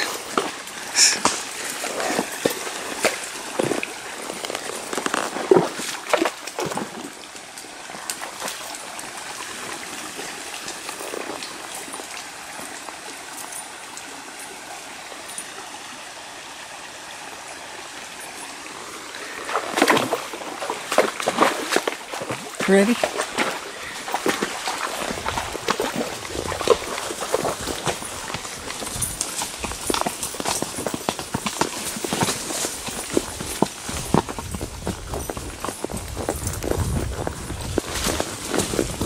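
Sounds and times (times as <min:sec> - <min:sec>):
hooves splashing on stone: 0:00.0 - 0:15.5, 0:18.1 - 0:39.0
stream water trickling: 0:00.0 - 0:39.0.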